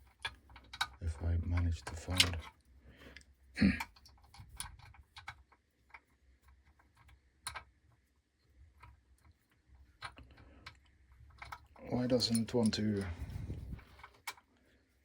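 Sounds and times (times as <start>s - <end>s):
small parts clicking and tapping: 0.0s - 14.8s.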